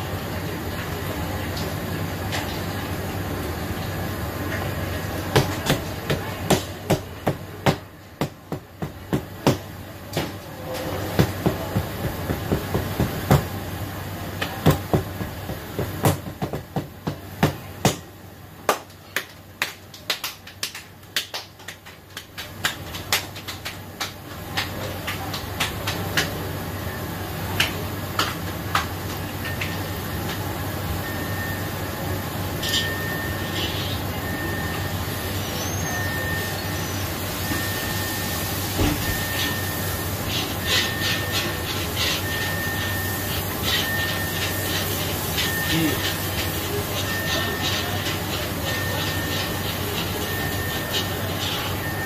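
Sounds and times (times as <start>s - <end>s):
ventilation hum: 0.0s - 52.0s.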